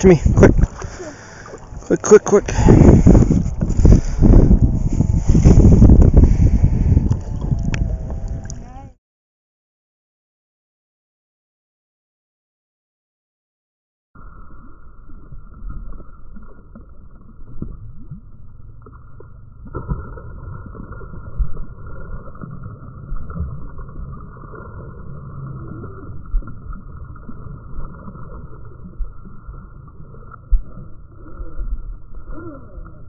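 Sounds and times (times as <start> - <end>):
muffled water and boat noise: 0.0 - 9.0, 14.2 - 33.0.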